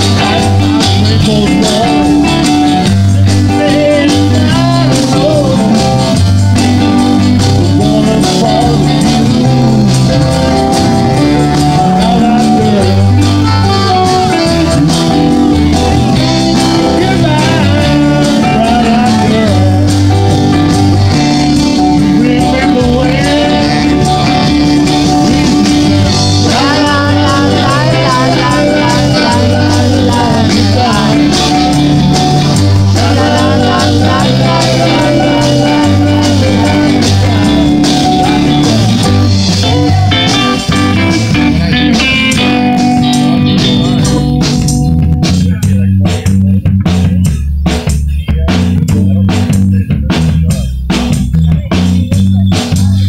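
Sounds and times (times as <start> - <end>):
wavering lead melody: 0.0 - 45.6
drums: 0.0 - 53.0
electric guitars: 0.0 - 53.0
repeating low bass line: 0.0 - 53.0.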